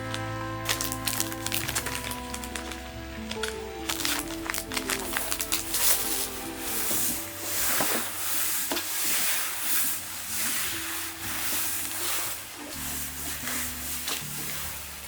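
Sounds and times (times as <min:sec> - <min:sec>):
soft low sustained music: 0:00.0 - 0:15.0
steady hiss: 0:00.0 - 0:15.0.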